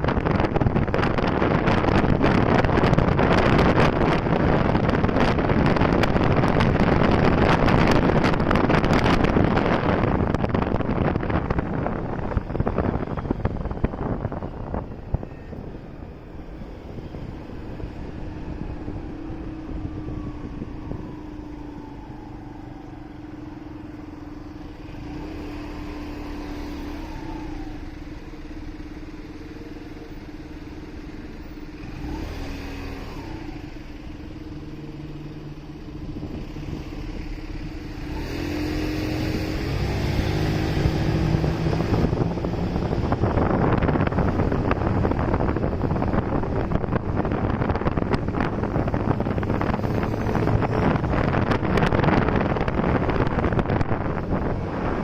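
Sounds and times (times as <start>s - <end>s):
passing traffic: 0.0s - 55.0s
wind noise on microphone: 0.0s - 55.0s.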